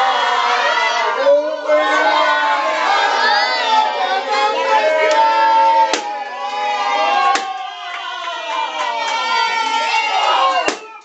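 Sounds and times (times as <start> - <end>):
crowd shouting and singing: 0.0 - 11.0.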